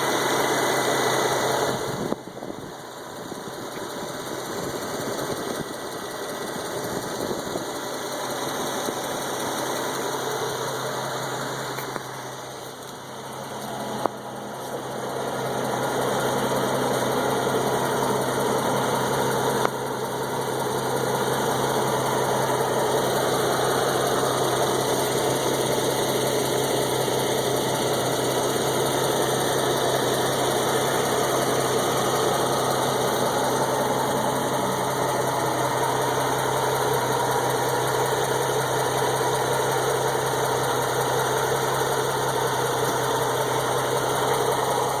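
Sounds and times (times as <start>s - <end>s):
car engine idling: 0.0s - 45.0s
exhaust leak ticking: 0.0s - 45.0s.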